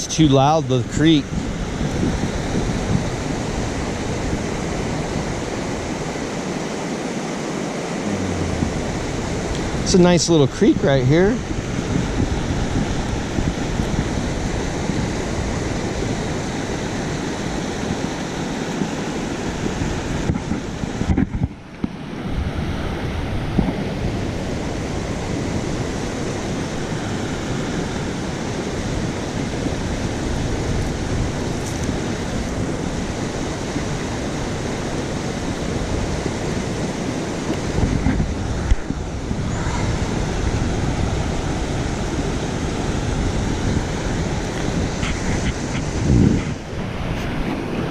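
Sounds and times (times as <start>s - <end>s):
creek rushing: 0.0s - 47.9s.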